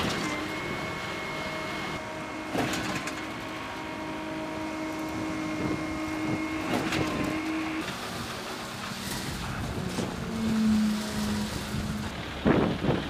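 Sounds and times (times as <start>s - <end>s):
pump truck humming: 0.0s - 13.0s.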